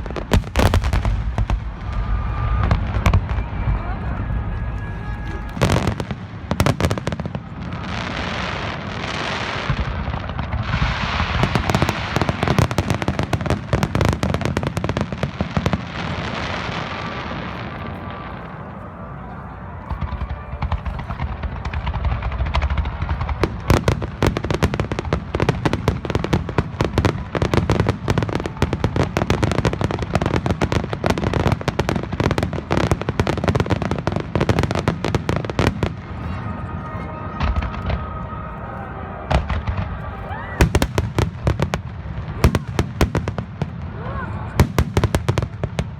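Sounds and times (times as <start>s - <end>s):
rapid crackling firework bangs: 0.0s - 3.8s, 5.3s - 17.7s, 19.9s - 36.2s, 39.3s - 45.9s.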